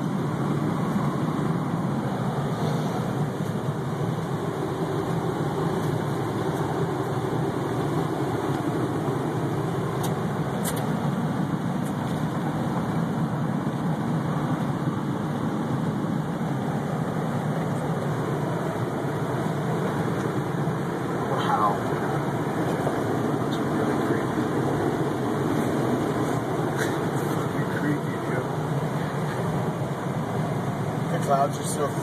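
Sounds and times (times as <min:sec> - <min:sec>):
road and engine noise in vehicle: 0:00.0 - 0:32.0.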